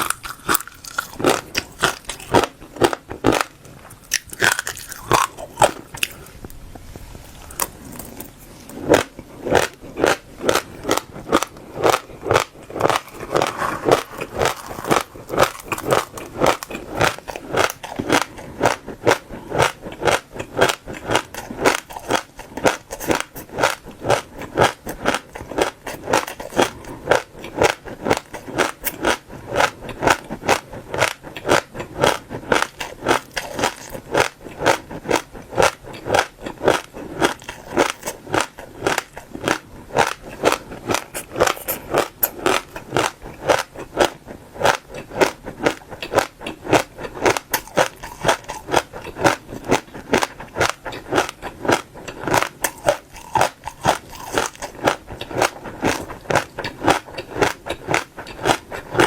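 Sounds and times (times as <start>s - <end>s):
seeds being chewed: 0.0s - 6.6s, 7.2s - 59.0s.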